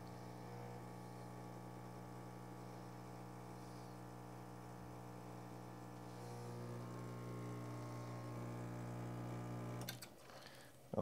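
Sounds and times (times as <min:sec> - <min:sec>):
espresso machine pump humming: 0:00.0 - 0:10.0.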